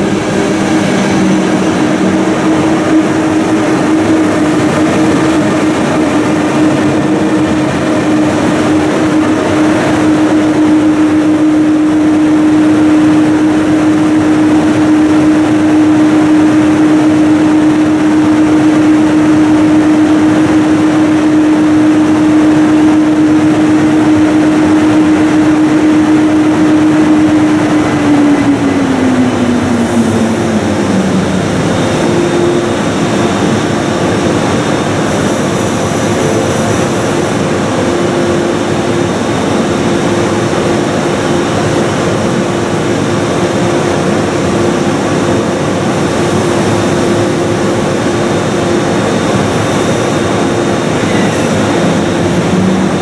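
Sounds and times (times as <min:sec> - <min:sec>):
electric locomotive whine: 0:00.0 - 0:53.0
locomotive cooling fans hum: 0:00.0 - 0:53.0.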